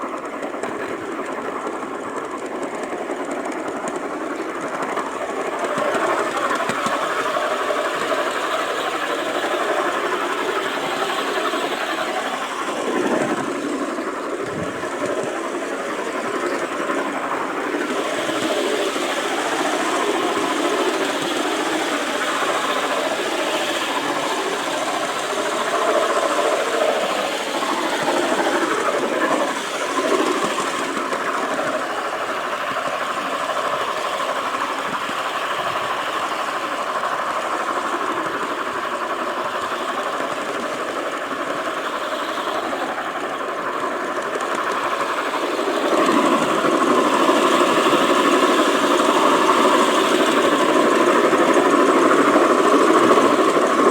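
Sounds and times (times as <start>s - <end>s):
model train rattling on track: 0.0s - 53.9s.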